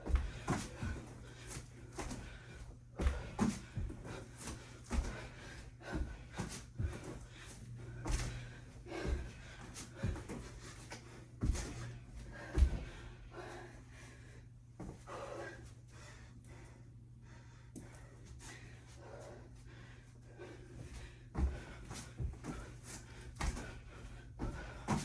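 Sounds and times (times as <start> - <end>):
person breathing hard and gasping: 0.1 - 10.6, 11.4 - 25.0.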